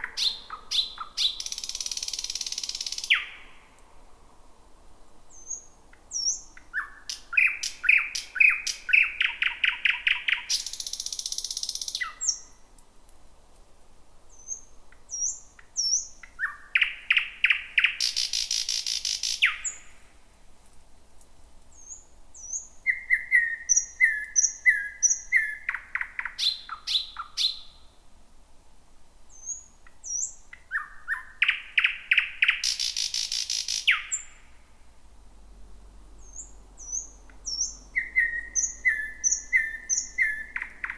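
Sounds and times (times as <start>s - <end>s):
bird singing: 0.0s - 3.7s, 5.3s - 12.6s, 14.3s - 20.0s, 21.7s - 27.9s, 29.3s - 34.6s, 36.2s - 40.9s.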